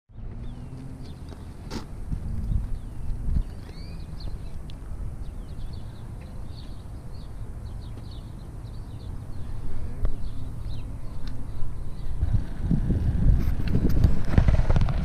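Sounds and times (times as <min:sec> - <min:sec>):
small birds chirping: 0:00.1 - 0:12.4
low rumble on microphone: 0:01.8 - 0:07.4, 0:08.1 - 0:15.0.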